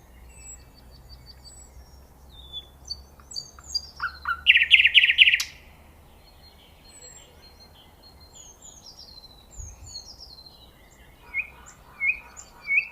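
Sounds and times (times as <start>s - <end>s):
distant birds whistling: 0.0s - 12.9s.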